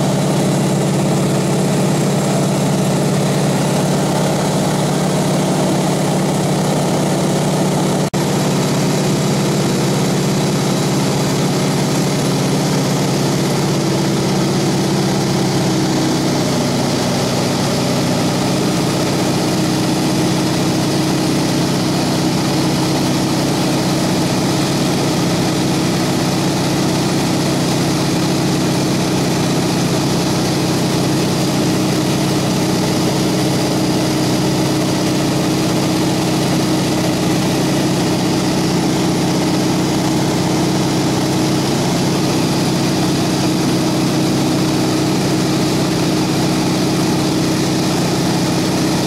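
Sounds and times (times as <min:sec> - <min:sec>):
airplane engine and propeller droning: 0:00.0 - 0:49.0.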